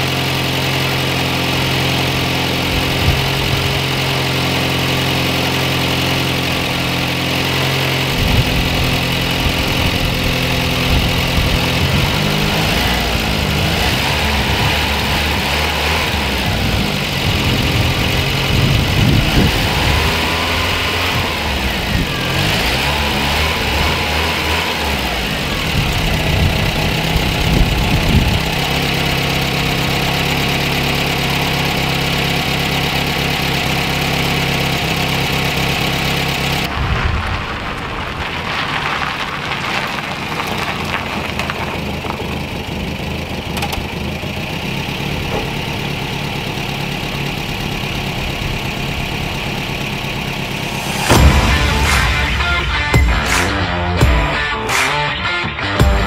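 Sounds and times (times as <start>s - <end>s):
truck engine revving and idling: 0.0s - 56.0s.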